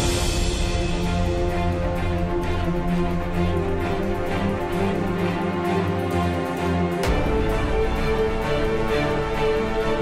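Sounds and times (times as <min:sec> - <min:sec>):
music with sustained chords: 0:00.0 - 0:10.0.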